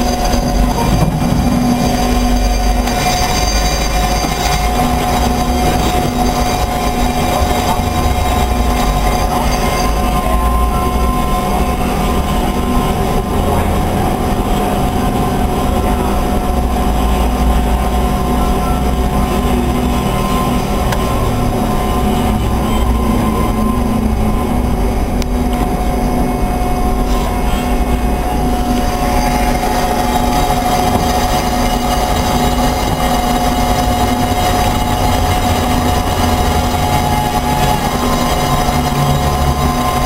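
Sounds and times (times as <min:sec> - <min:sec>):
bandsaw running: 0:00.0 - 0:25.1, 0:26.2 - 0:40.0.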